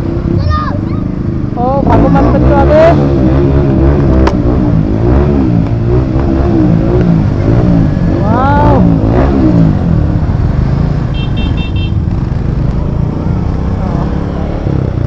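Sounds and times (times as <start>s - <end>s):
motorcycle engine revving: 1.0s - 15.0s.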